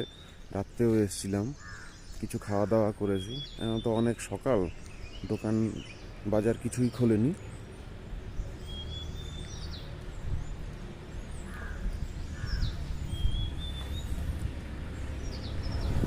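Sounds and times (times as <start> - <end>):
harsh bird calls: 0.0 - 16.0.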